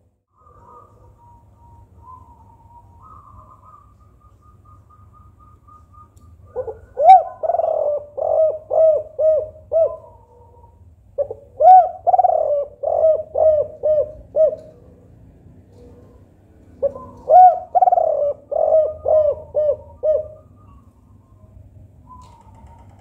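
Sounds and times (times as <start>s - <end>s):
dove cooing: 0.4s - 5.3s, 6.4s - 20.8s.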